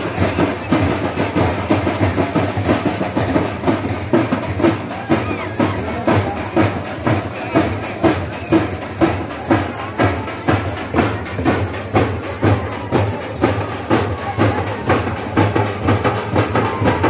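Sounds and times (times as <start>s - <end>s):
frame drums beating: 0.0s - 17.0s.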